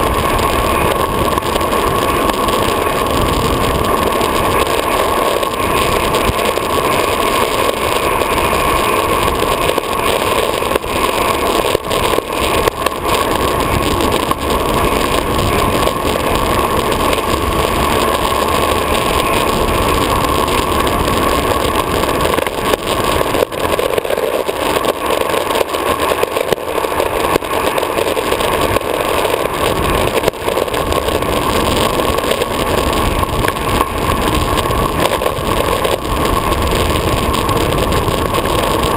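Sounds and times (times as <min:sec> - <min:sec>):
skateboard wheels roaring on asphalt: 0:00.0 - 0:38.9
wind buffeting camera: 0:00.0 - 0:38.9.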